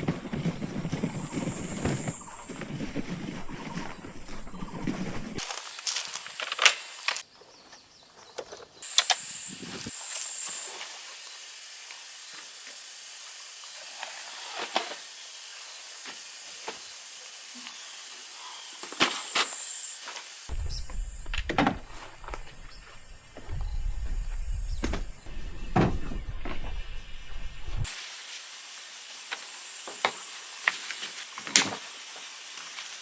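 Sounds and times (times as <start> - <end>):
cicadas droning: 0.0 - 7.3, 8.8 - 33.0.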